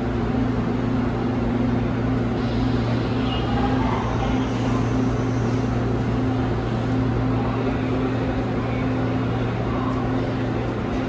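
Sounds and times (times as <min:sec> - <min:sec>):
train equipment low hum: 0:00.0 - 0:11.0.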